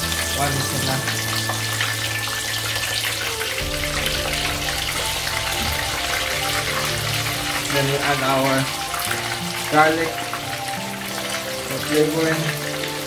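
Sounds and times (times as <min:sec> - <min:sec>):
background music: 0:00.0 - 0:13.0
fish sizzling in oil: 0:00.0 - 0:13.0.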